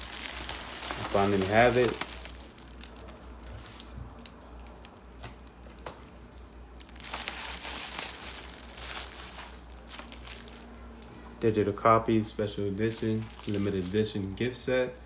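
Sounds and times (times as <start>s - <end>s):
packaging rustling: 0.0s - 11.2s, 12.8s - 14.3s
low steady hum: 0.0s - 15.0s.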